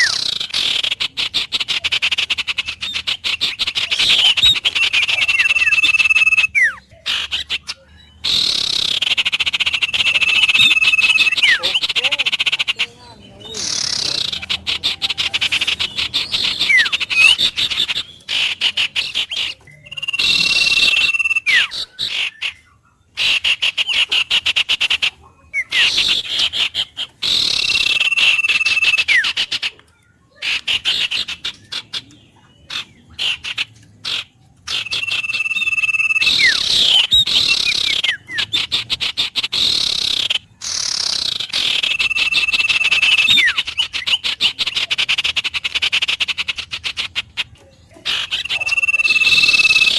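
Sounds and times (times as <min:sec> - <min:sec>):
frog chorus calling: 0:00.0 - 0:29.8, 0:30.4 - 0:49.9.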